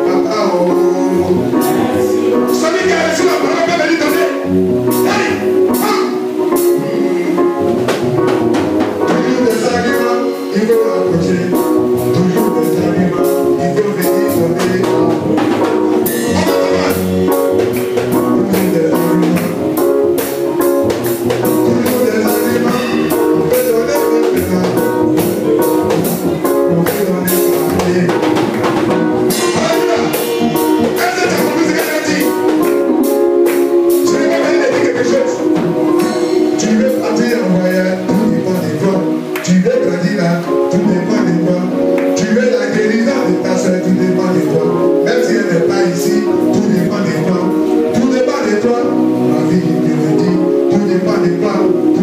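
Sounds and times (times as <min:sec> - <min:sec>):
person singing: 0:00.0 - 0:08.0, 0:09.0 - 0:52.0
worship music with drums: 0:00.0 - 0:52.0.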